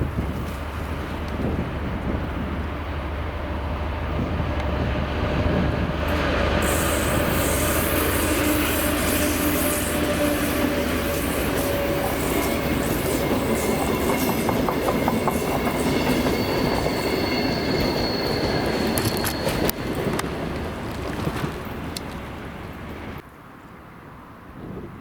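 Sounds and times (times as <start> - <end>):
train wheels on rails: 0.0 - 23.2.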